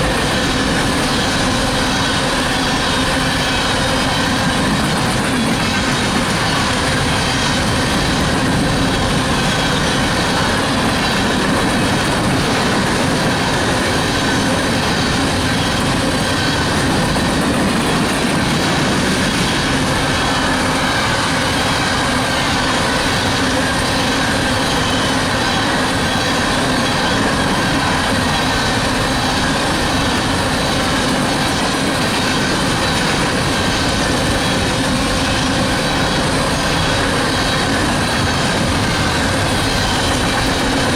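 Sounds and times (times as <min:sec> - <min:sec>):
train wheels rumbling and rattling: 0:00.0 - 0:40.9.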